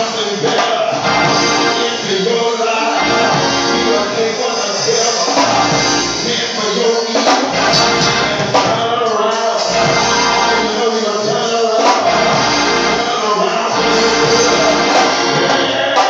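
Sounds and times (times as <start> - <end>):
live gospel music: 0.0 - 16.0.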